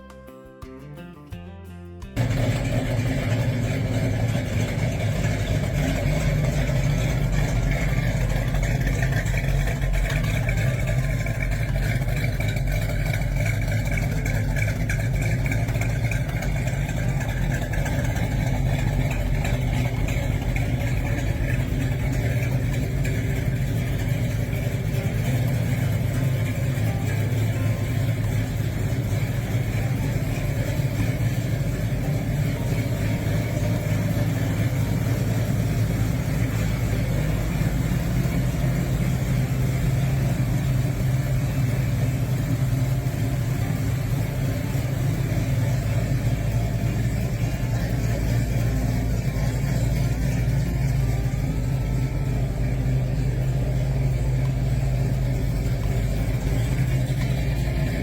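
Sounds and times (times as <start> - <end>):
car engine rumbling: 1.0 - 58.0.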